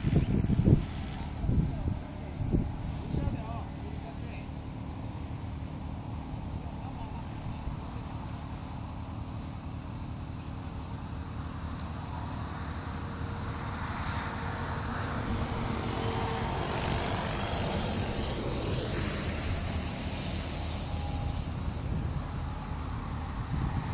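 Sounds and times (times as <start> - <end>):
model helicopter rotor and engine whine: 0.0 - 23.9.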